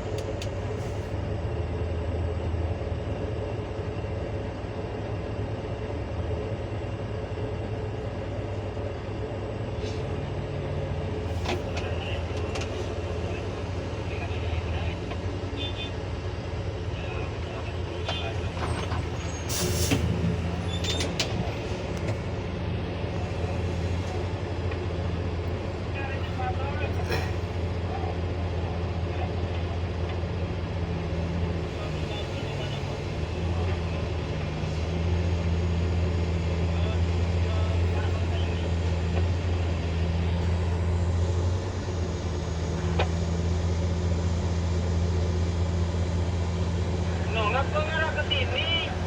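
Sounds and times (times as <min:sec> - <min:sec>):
diesel engine humming: 0:00.0 - 0:49.0.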